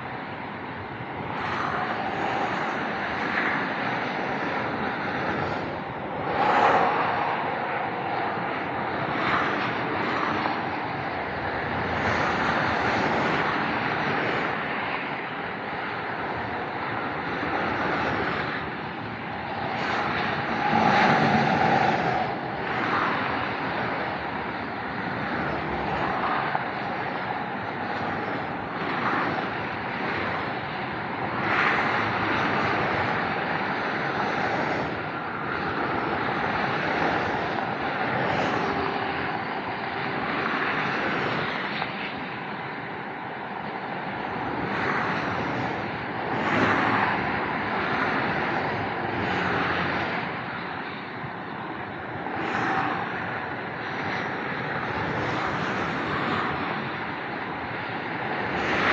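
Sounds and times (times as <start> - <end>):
highway traffic passing: 0.0 - 58.9.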